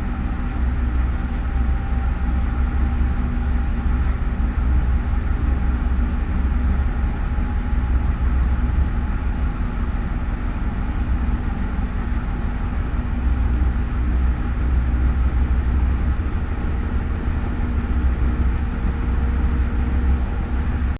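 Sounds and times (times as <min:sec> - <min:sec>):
washing machine running: 0:00.0 - 0:20.9.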